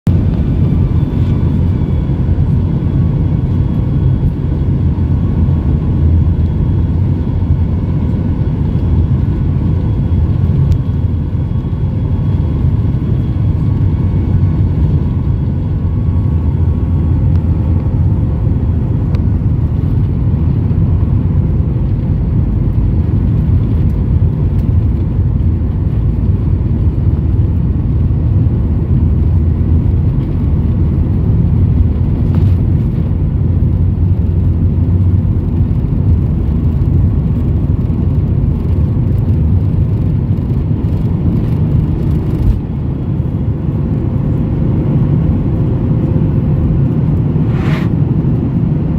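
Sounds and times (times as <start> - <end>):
jet engine cabin rumble: 0.1 - 48.9.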